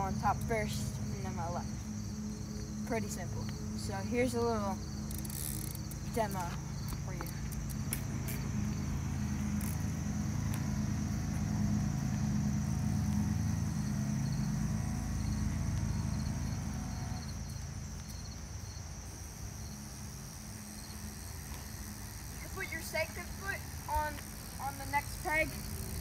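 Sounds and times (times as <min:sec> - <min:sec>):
crickets chirping: 0:00.0 - 0:26.0
vehicle engine hum: 0:00.0 - 0:26.0.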